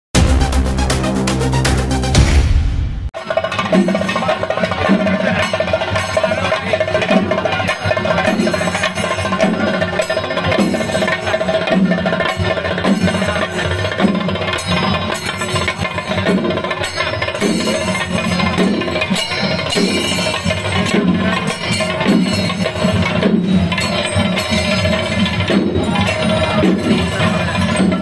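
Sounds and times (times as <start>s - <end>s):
music with strong percussion beat: 0.2s - 28.0s.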